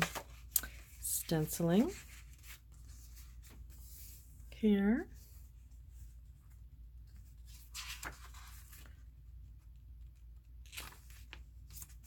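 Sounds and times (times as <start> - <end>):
paper pages rustling: 0.0 - 4.3, 6.1 - 12.0.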